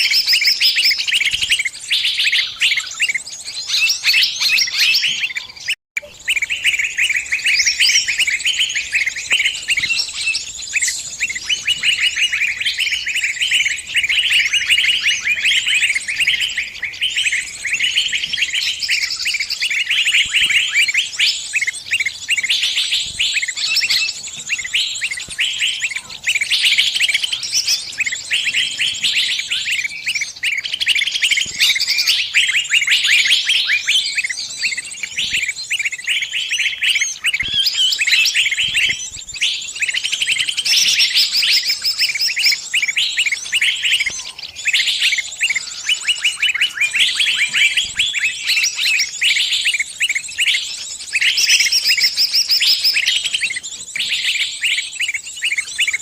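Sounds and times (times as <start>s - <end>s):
small bird rapid high chirps: 0.0s - 56.0s.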